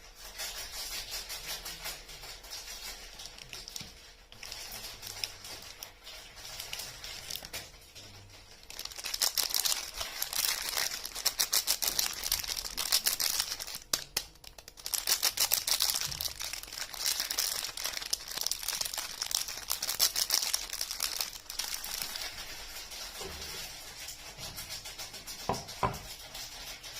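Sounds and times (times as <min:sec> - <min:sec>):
wrapper crinkling and tearing: 0:00.3 - 0:26.9.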